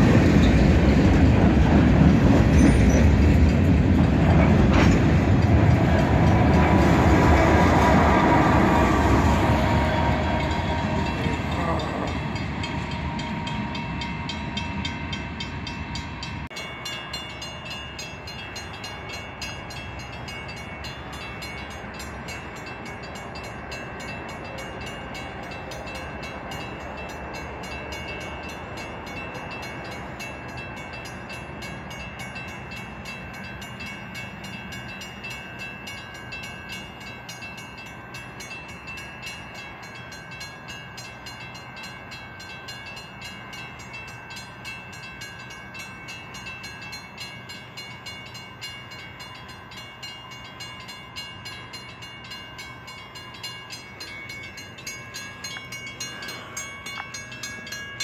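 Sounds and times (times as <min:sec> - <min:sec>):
diesel freight train passing: 0:00.0 - 0:58.0
distant train: 0:00.0 - 0:58.0.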